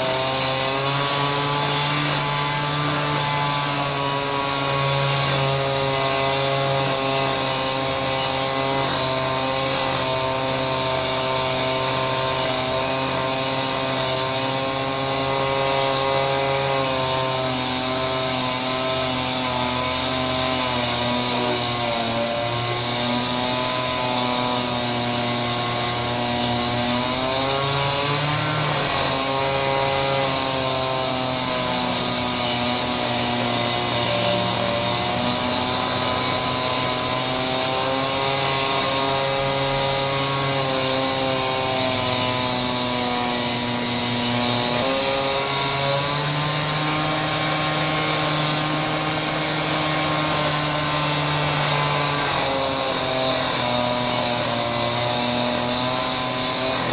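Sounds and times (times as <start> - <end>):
concrete saw cutting stone: 0.0 - 56.9.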